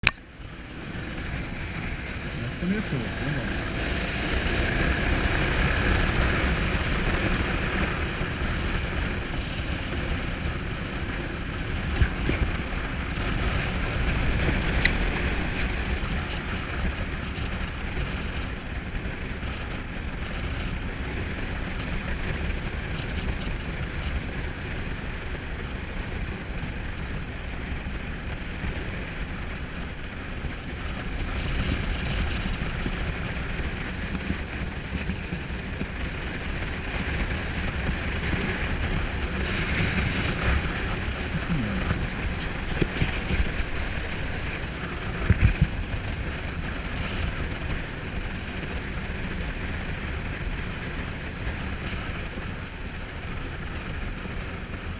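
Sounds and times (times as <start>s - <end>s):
motorcycle engine rumble: 0.0s - 54.9s
wind noise on microphone: 0.0s - 54.9s.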